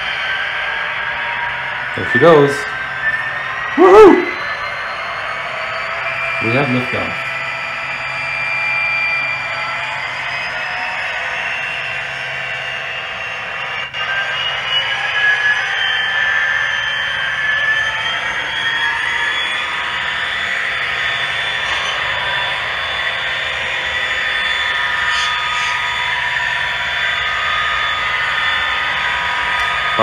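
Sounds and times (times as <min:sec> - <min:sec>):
model locomotive diesel engine sound: 0:00.0 - 0:30.0.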